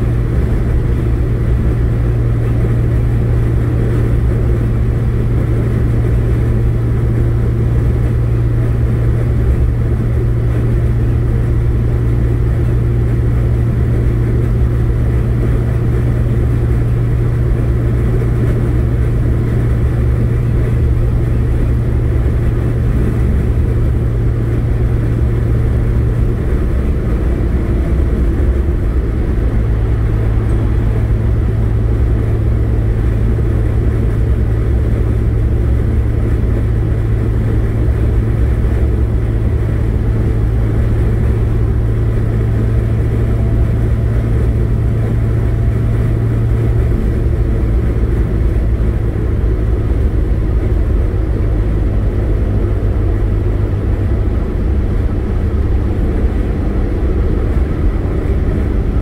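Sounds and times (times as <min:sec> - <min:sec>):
car engine drone: 0:00.0 - 0:59.0
tyre and wind rumble: 0:00.0 - 0:59.0.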